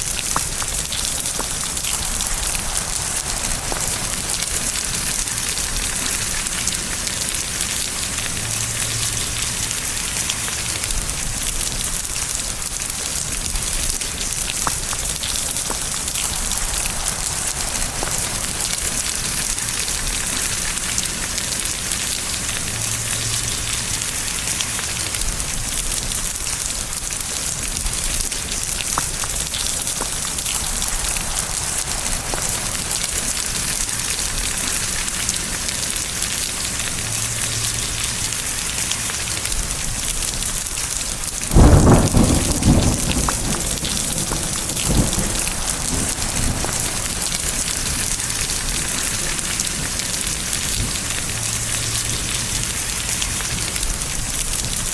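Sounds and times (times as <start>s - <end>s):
thunderclap and rumble: 0.0s - 35.6s, 39.4s - 54.9s
steady rain hiss: 0.0s - 54.9s.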